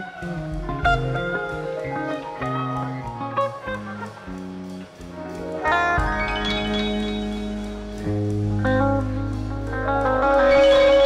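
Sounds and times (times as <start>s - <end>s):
bass guitar: 0.0s - 11.0s
drums: 0.0s - 11.0s
electric guitars: 0.0s - 11.0s.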